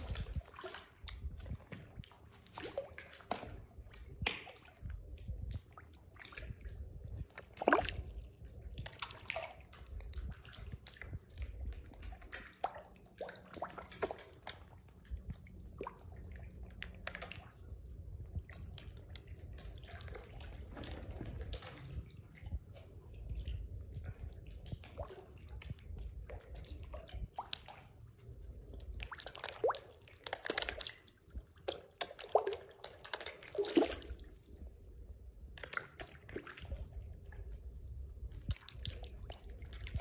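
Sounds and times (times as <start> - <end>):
water plops and slurps: 0.0 - 40.0.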